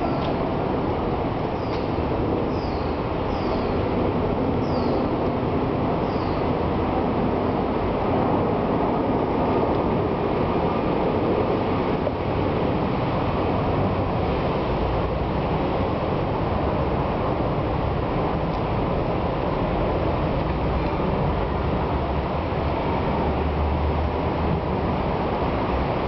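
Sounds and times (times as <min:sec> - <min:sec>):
loud rushing noise: 0:00.0 - 0:26.0.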